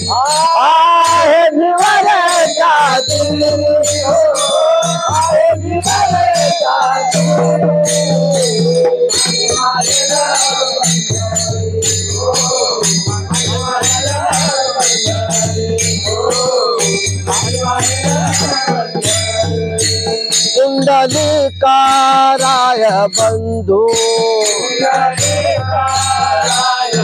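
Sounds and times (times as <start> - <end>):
hand cymbals ringing: 0.0 - 27.0
men singing: 0.0 - 27.0.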